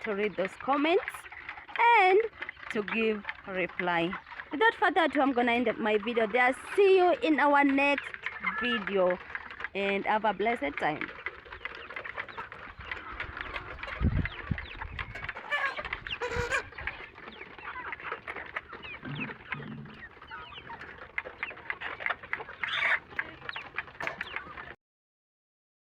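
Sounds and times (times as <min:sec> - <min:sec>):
chickens clucking: 0:00.0 - 0:24.8.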